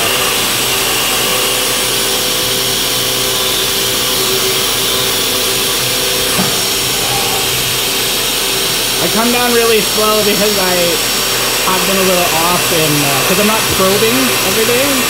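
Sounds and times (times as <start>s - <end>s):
compressed air coolant hiss: 0.0s - 15.0s
milling machine whine: 0.0s - 15.0s.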